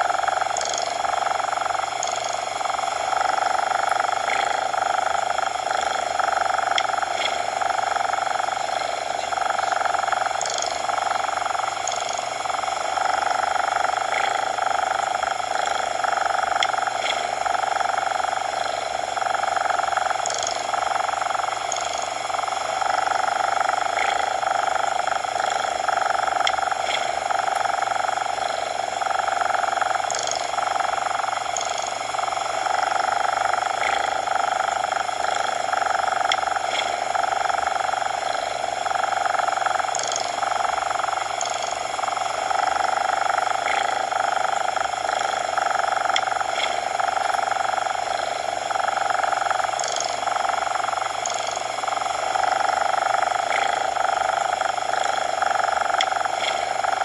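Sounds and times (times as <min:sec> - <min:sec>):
coloured noise hiss: 0:00.0 - 0:57.0.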